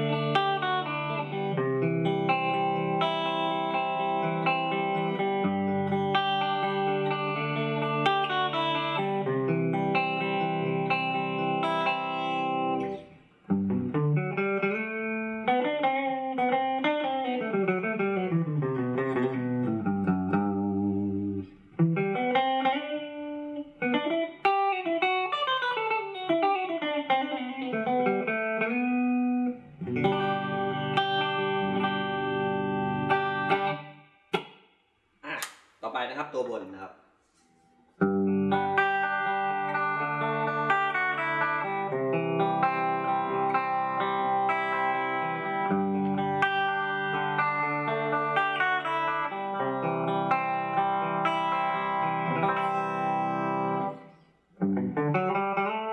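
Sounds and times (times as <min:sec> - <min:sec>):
clean electric guitar: 0:00.0 - 0:34.6, 0:37.4 - 0:55.9.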